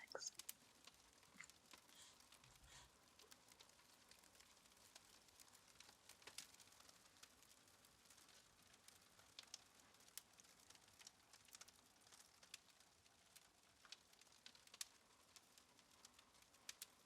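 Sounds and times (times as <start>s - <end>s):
faint small clicks and ticks: 0.0s - 17.0s.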